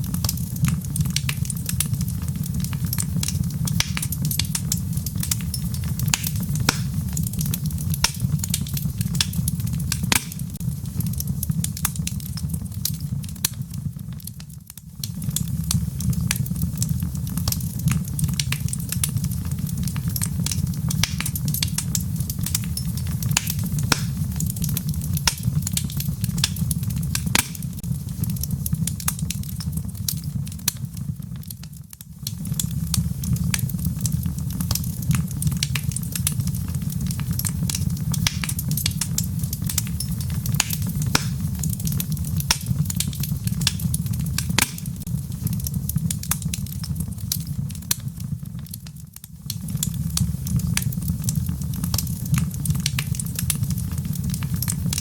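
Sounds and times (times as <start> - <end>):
rain: 0.0 - 55.0
wood fire crackling and popping: 0.0 - 55.0.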